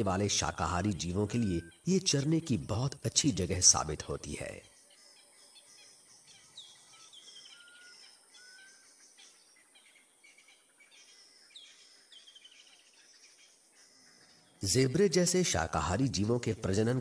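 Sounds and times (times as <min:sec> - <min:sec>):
bird singing trill: 0:00.0 - 0:17.0
faint outdoor hiss: 0:00.0 - 0:17.0.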